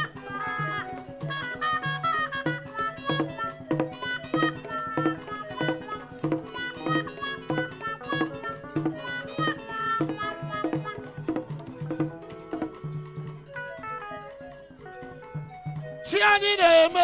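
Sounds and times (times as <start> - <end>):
worship band music: 0.0 - 17.0.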